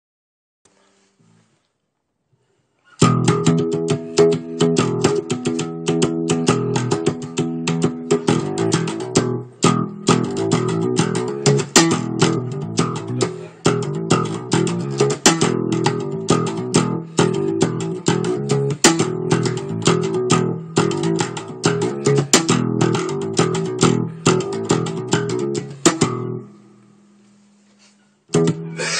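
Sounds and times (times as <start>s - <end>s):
bass line: 3.0s - 27.4s, 28.3s - 28.9s
plucked guitar music: 3.0s - 28.9s.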